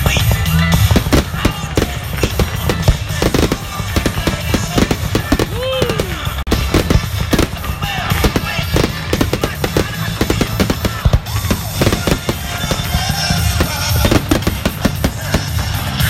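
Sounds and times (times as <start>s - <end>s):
fireworks bangs: 0.0s - 16.0s
music playing: 0.0s - 16.0s.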